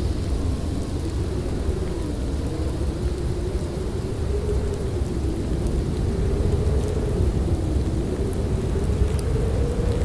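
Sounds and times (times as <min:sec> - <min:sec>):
faint wavering wind howl: 0:00.0 - 0:10.0
low wind rumble: 0:00.0 - 0:10.0.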